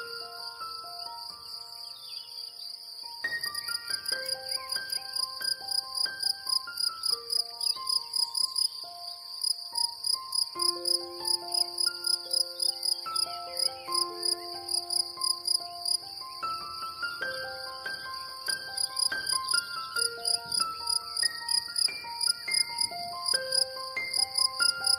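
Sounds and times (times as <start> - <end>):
cicadas buzzing: 0.0 - 24.9
soft instrumental music: 0.0 - 24.9.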